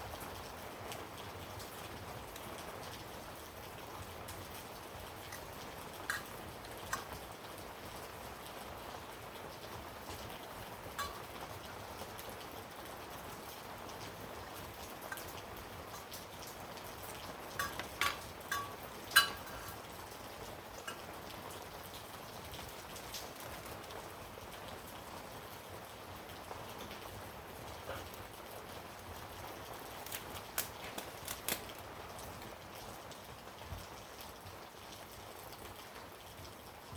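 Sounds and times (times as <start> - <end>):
steady hiss: 0.0 - 32.8.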